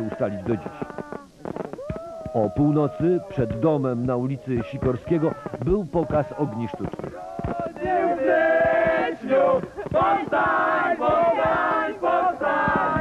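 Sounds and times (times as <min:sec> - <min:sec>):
group of people singing: 0:02.6 - 0:13.0.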